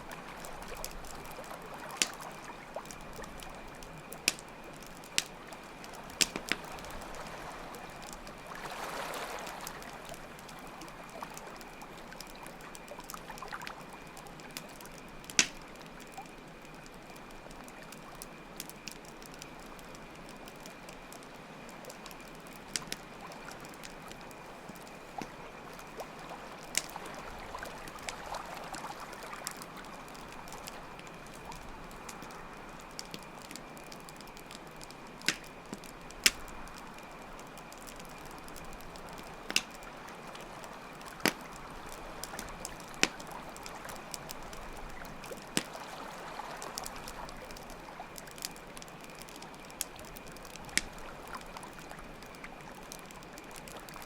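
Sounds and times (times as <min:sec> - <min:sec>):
flowing water: 0:00.0 - 0:16.3, 0:21.7 - 0:54.0
campfire crackling and popping: 0:00.0 - 0:54.0
crickets chirping: 0:00.0 - 0:54.0.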